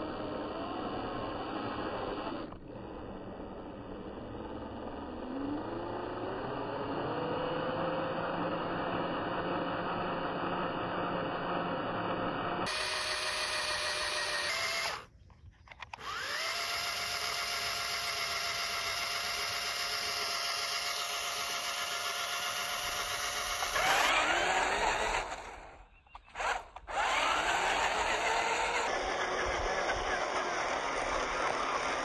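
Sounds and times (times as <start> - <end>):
wheels spinning in sand: 0.0 - 32.0
toy electric motor whining: 0.1 - 32.0.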